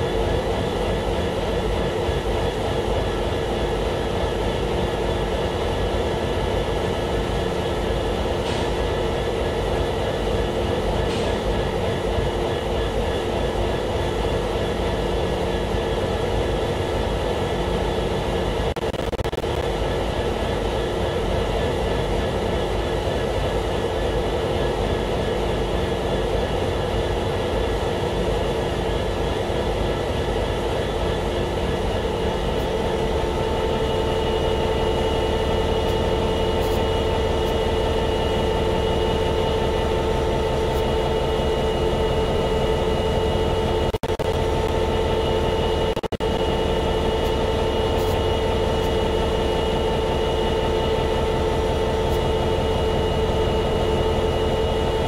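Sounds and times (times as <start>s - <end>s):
steady whining tones: 0.0s - 55.0s.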